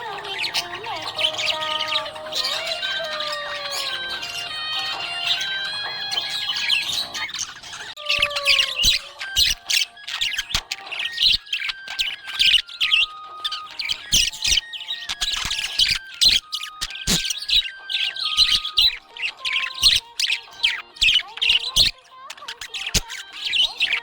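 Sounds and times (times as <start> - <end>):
budgies chirping: 0.0 - 24.0.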